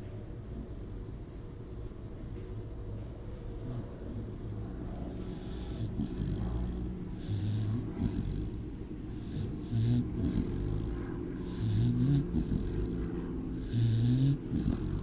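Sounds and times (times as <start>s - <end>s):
dog snoring: 0.0s - 15.0s.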